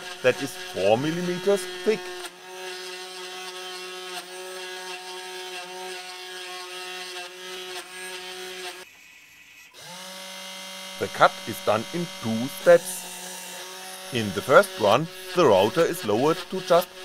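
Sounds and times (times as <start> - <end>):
router spindle whining cutting plastic: 0.0 - 17.0.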